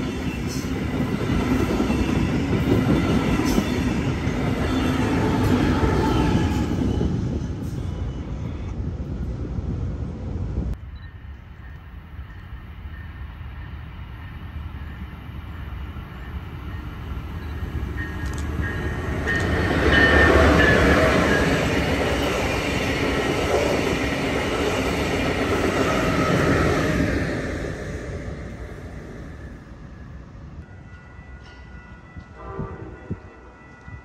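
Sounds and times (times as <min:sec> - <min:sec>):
passenger train passing at speed: 0:00.0 - 0:34.0.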